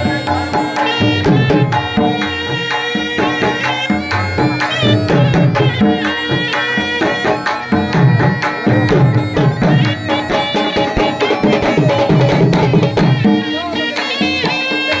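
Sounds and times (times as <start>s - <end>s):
folk drums beating: 0.0s - 15.0s
sustained melody line: 0.0s - 15.0s.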